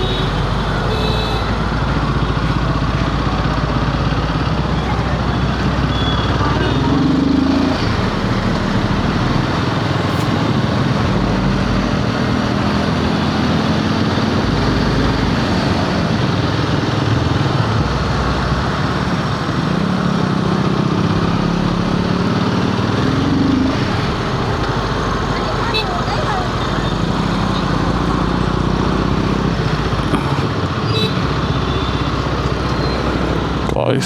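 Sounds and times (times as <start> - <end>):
motorcycle engine running: 0.0 - 33.8
wind and road noise: 0.0 - 34.0.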